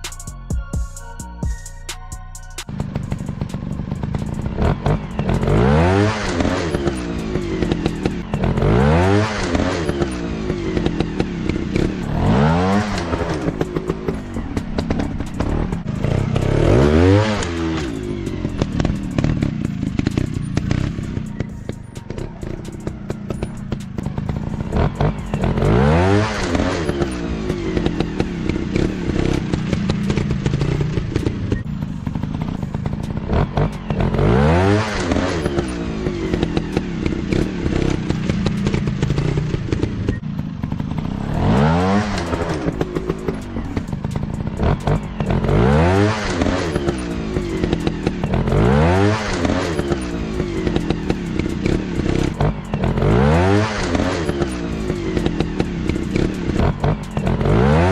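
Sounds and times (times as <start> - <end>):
dirt bike engines revving: 2.7 - 57.9.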